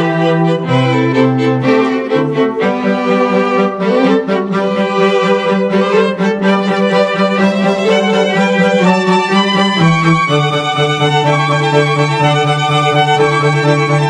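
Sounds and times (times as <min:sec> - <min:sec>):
violin and cello music: 0:00.0 - 0:14.0.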